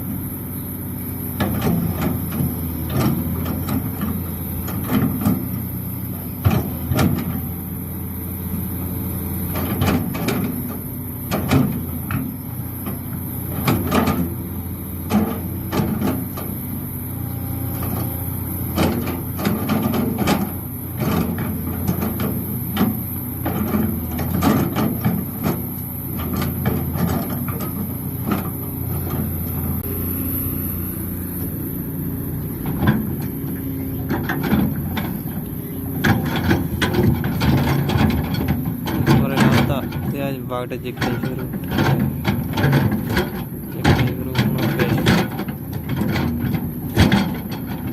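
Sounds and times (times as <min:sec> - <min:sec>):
excavator running: 0:00.0 - 0:47.9.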